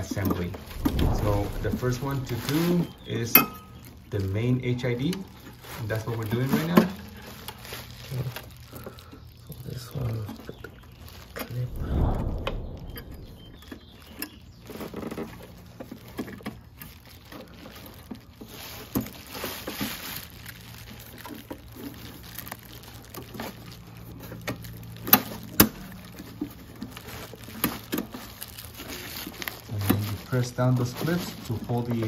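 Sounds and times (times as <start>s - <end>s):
rustle: 0.7s - 3.9s, 5.5s - 32.0s.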